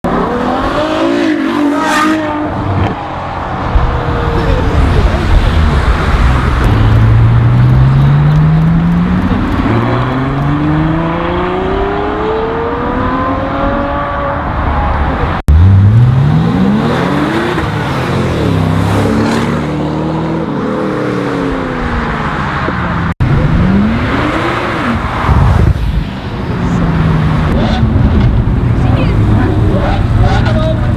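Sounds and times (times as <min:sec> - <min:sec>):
sports car engines revving: 0:00.1 - 0:30.9.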